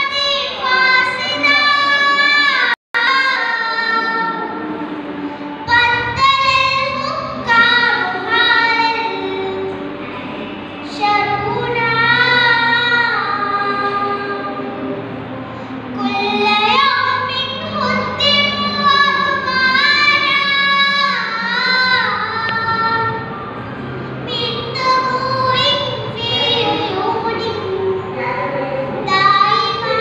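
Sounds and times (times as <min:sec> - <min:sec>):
girl singing unaccompanied chant: 0:00.0 - 0:15.0, 0:15.8 - 0:30.0.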